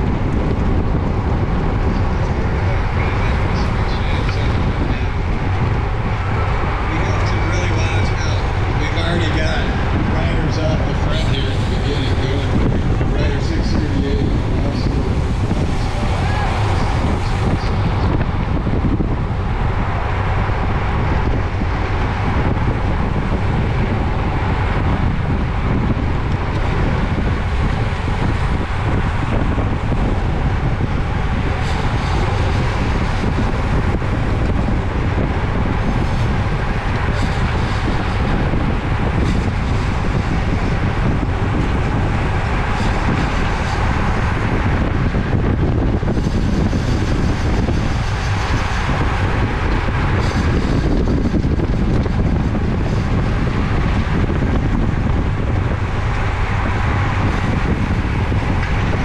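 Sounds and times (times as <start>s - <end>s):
low road hum: 0.0s - 59.0s
wind noise on microphone: 0.0s - 59.0s.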